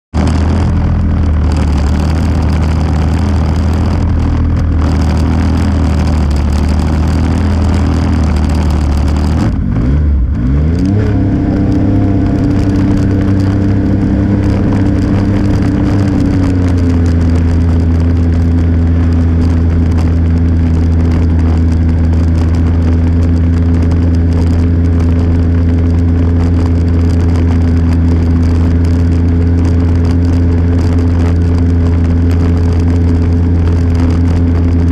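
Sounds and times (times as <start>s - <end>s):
vehicle engine revving: 0.1s - 34.9s.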